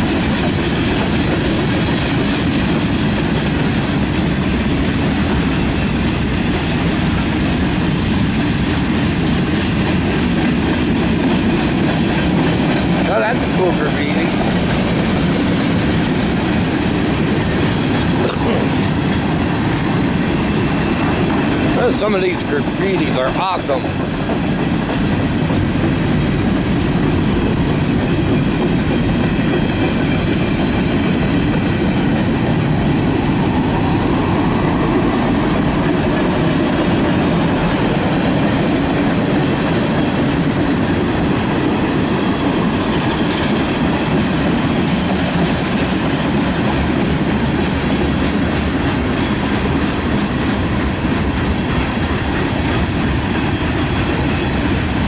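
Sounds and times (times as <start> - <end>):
clickety-clack over rail joints: 0.0 - 55.0
freight train wheels rumbling: 0.0 - 55.0.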